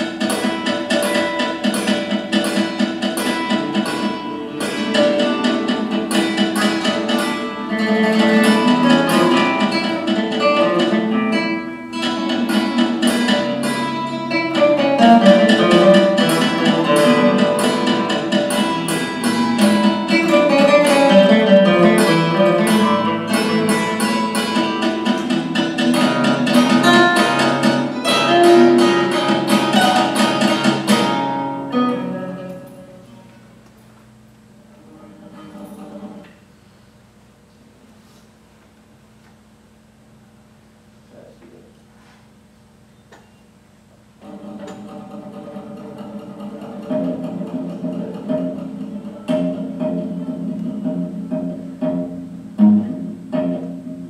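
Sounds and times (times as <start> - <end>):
guitar quartet playing: 0.0 - 36.8, 44.2 - 54.0.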